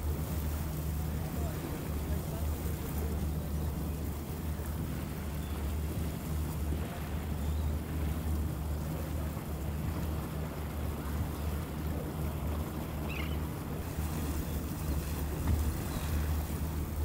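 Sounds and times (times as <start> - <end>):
boat engine low drone: 0.0 - 17.0.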